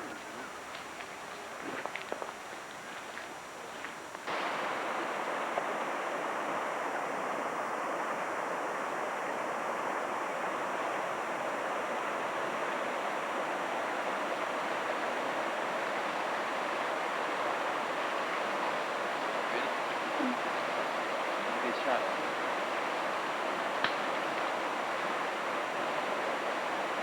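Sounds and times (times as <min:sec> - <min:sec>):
flowing water rushing: 0:00.0 - 0:27.0.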